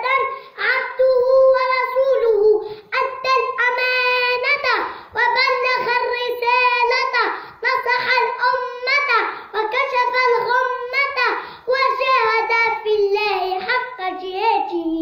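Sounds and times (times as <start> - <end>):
boy chanting loudly: 0.0 - 15.0.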